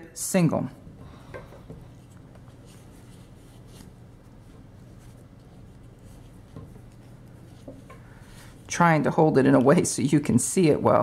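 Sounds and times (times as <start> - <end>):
low steady hum: 0.0 - 11.0
yarn rustling through stitches: 1.8 - 11.0.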